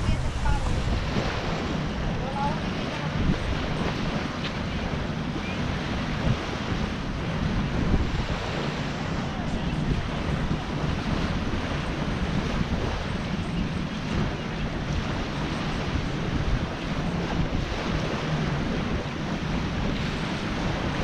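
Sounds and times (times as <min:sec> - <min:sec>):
small waves washing onto shore: 0:00.0 - 0:21.0
wind buffeting microphone: 0:00.0 - 0:21.0.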